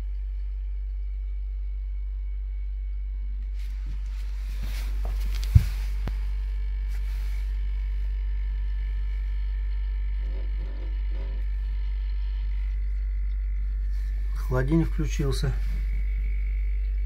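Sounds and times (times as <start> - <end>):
refrigerator compressor humming: 0.0 - 17.0.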